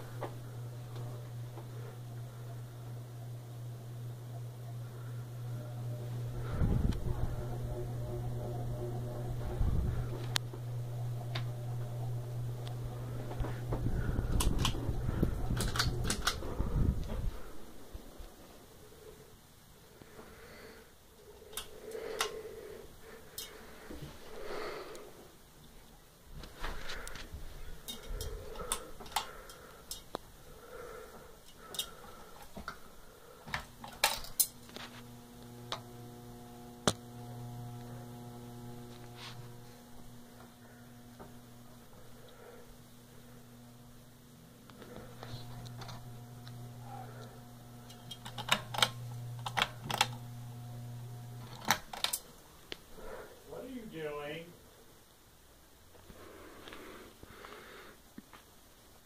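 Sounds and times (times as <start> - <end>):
ceiling fan motor humming: 0.0 - 58.0.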